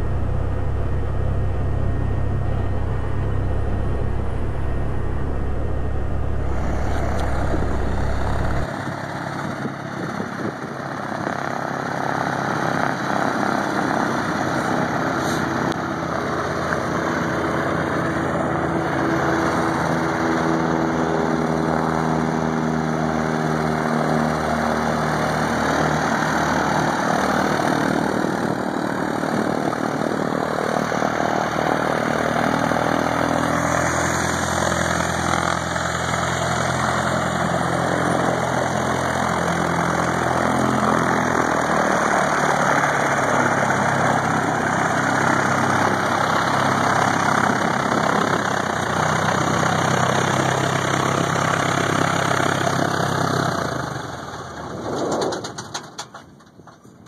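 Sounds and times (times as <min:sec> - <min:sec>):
plane engine drone in cabin: 0:00.0 - 0:56.0
plane taxiing propeller hum: 0:00.0 - 0:57.0.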